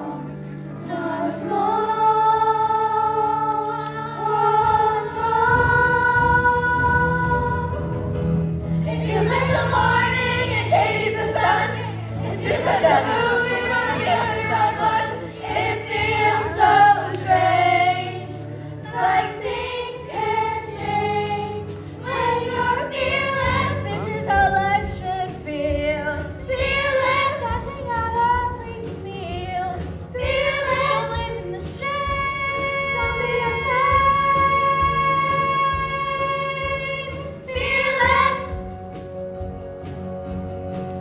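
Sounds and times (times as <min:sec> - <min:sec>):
group singing with accompaniment: 0:00.0 - 0:28.6, 0:29.2 - 0:38.8.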